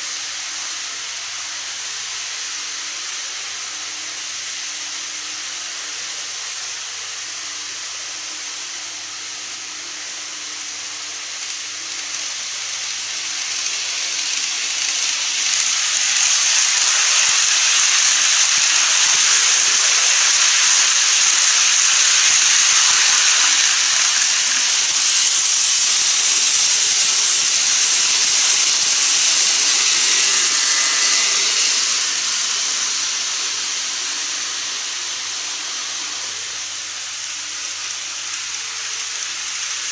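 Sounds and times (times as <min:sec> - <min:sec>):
model train rolling on track: 0:00.0 - 0:39.9.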